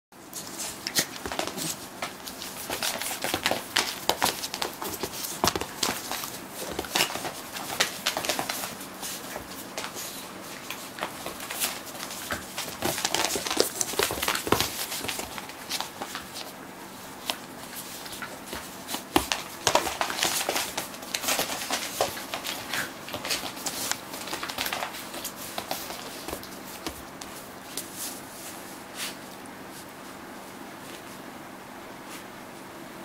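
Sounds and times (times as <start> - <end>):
dogs scuffling: 0.2 - 31.2
dog claws clicking on wooden floor: 0.4 - 16.5, 17.2 - 27.9.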